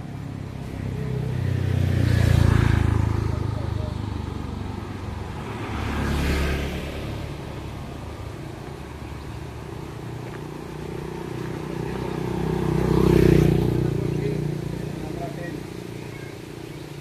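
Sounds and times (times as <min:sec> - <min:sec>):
small motorbikes passing: 0:00.0 - 0:17.0.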